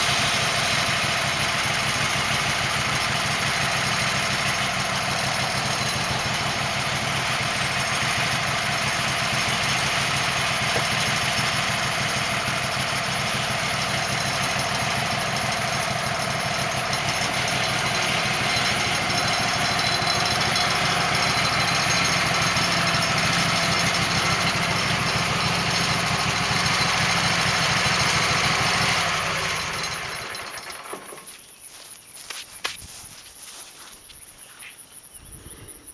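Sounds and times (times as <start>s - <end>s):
band sawmill running: 0.0s - 31.4s.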